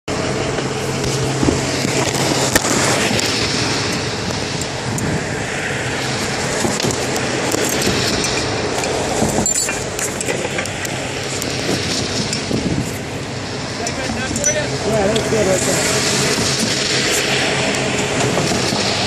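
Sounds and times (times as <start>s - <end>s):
highway traffic rushing: 0.1s - 19.0s
low engine hum: 0.1s - 19.0s.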